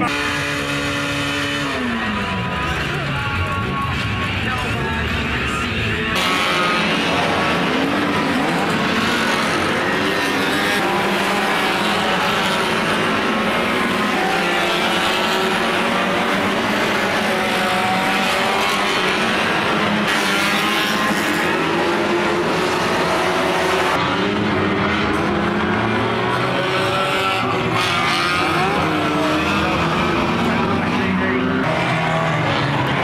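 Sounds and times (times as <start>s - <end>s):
racing car engines revving: 0.0s - 33.0s.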